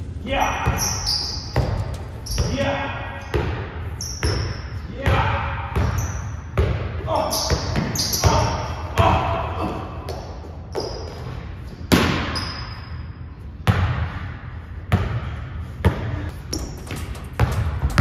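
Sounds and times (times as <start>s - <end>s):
basketball bouncing in a gym: 0.3s - 18.0s.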